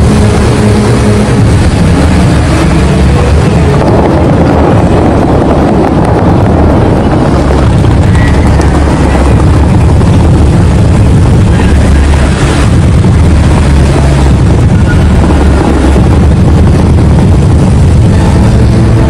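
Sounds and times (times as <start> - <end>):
fountain water jets rushing: 0.0 - 19.0.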